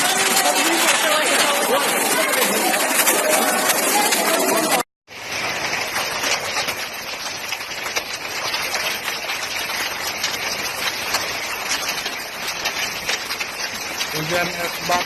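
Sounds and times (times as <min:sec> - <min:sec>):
hailstones ticking: 0:00.0 - 0:15.0
heavy rain hissing: 0:00.0 - 0:15.0.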